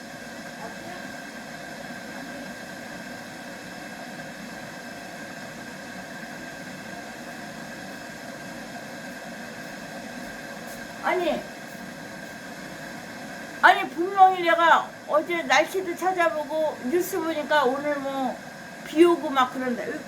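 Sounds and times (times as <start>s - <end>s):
background hiss and hum: 0.0s - 20.0s.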